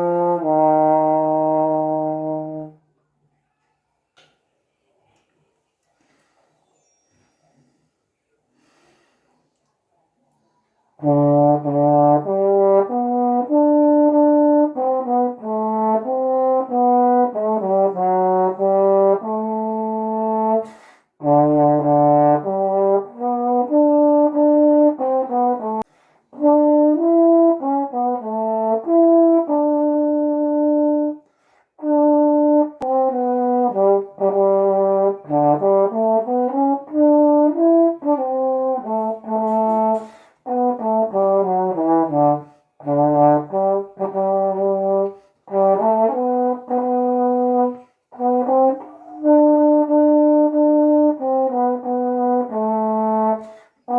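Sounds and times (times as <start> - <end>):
solo trombone playing hymn melody: 0.0 - 2.8, 11.0 - 53.9.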